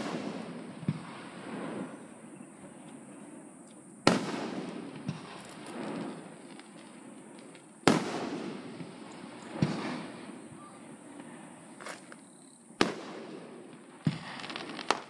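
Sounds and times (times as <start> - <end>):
firework shells booming: 0.0 - 3.0, 4.0 - 10.9, 12.8 - 15.0
smaller firework bangs: 0.0 - 11.7, 12.8 - 15.0.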